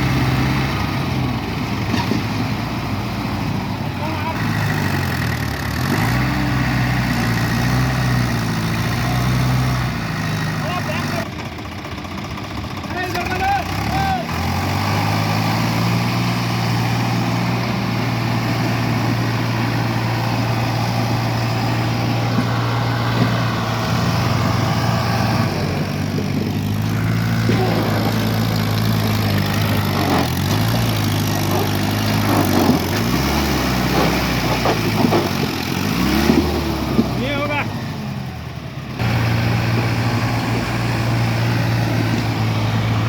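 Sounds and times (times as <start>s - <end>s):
diesel tractor engine running: 0.0s - 43.0s.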